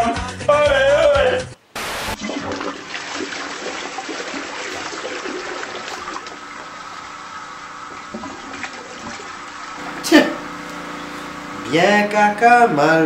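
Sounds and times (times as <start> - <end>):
toilet flushing: 2.0 - 12.8.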